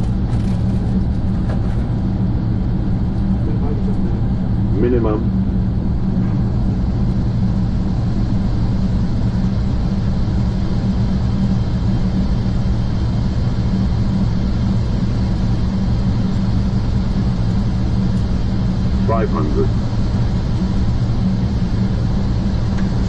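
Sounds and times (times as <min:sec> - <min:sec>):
noisy rush: 0:00.0 - 0:23.0
turboprop engines droning: 0:00.0 - 0:23.0.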